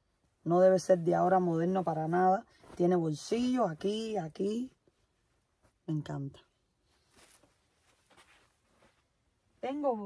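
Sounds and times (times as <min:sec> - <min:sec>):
faint clothing rustles: 0:00.9 - 0:09.8.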